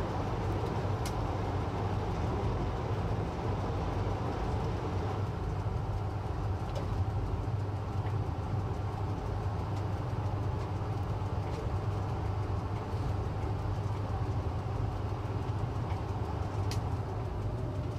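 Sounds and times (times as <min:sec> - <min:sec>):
train rumbling on rails: 0:00.0 - 0:17.9.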